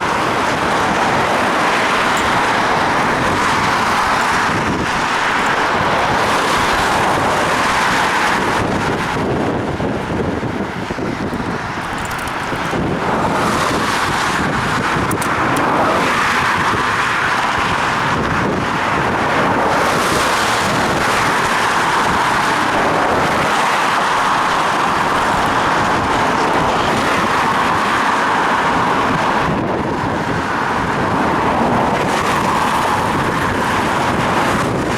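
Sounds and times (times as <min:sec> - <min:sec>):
road and traffic noise: 0:00.0 - 0:34.9
wind on microphone: 0:00.0 - 0:34.9.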